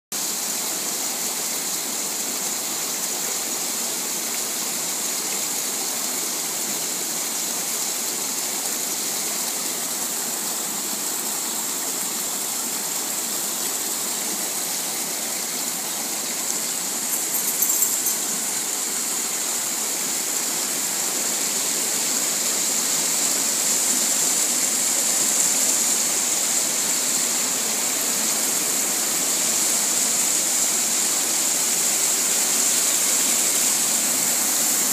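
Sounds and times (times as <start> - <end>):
water rushing and splashing: 0.2 - 34.9.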